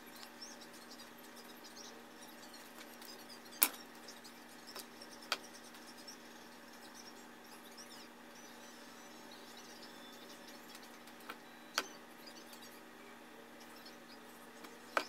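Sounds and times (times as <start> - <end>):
faint high chirps: 0.0 - 15.0
steady low hum: 0.0 - 15.0.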